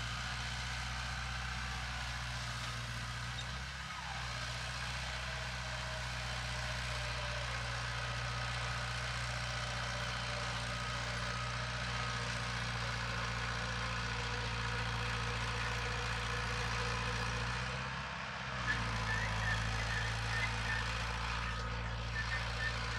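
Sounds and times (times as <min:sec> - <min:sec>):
heavy diesel engine running: 0:00.0 - 0:22.9.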